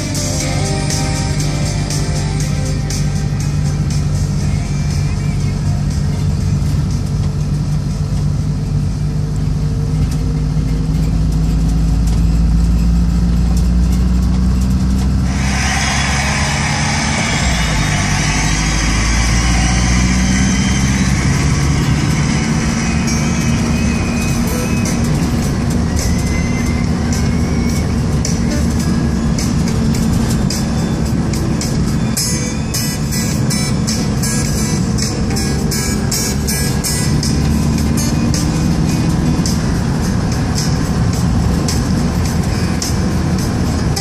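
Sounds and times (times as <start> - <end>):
motor vehicle engine running: 0.0 - 44.0
wind and road noise: 0.0 - 44.0.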